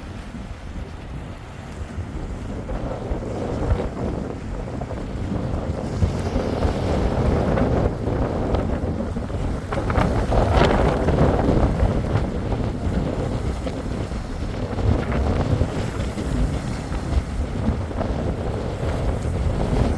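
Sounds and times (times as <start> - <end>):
sea wash: 0.0 - 19.9
wind buffeting microphone: 0.0 - 19.9.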